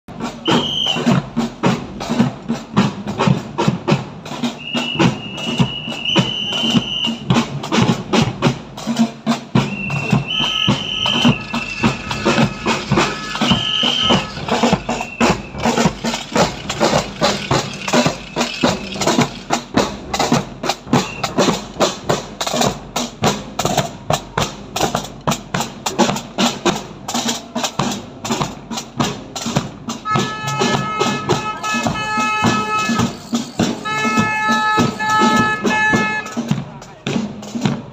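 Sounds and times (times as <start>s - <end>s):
marching snare and bass drums: 0.1s - 37.9s.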